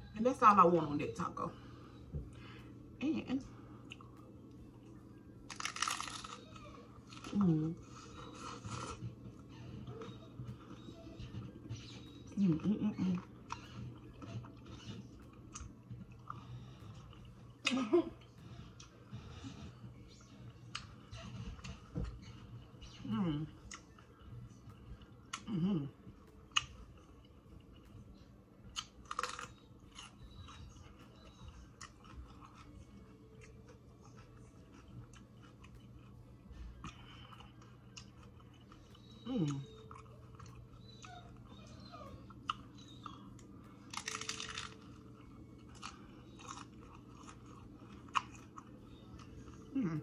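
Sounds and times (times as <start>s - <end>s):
chewing crunchy taco: 3.8s - 12.3s, 13.0s - 17.7s, 18.4s - 50.0s.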